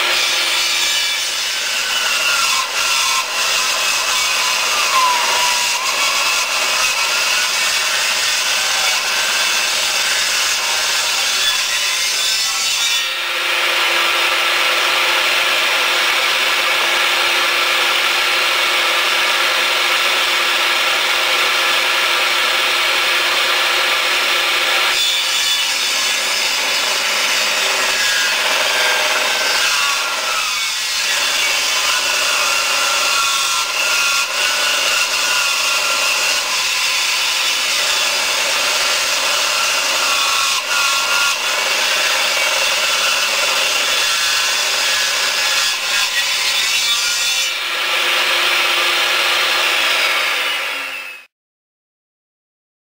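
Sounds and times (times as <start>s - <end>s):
power saw cutting log: 0.0s - 51.3s.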